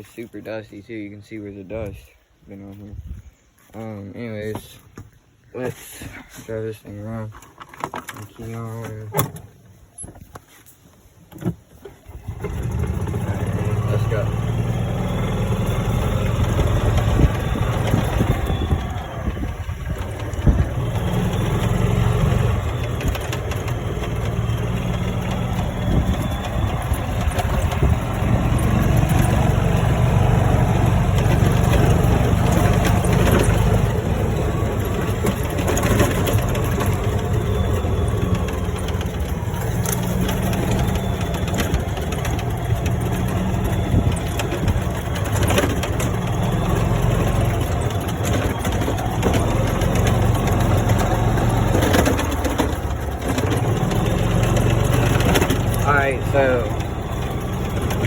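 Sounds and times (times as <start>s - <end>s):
golf cart engine running: 11.3s - 58.0s.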